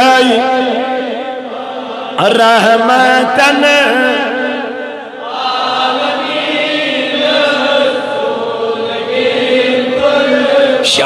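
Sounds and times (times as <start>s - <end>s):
men chanting in unison: 0.0s - 11.0s.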